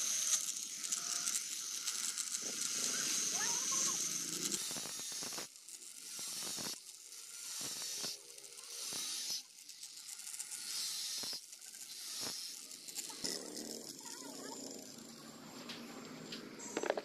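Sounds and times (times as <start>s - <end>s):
angle grinder cutting wire mesh: 0.0s - 17.0s.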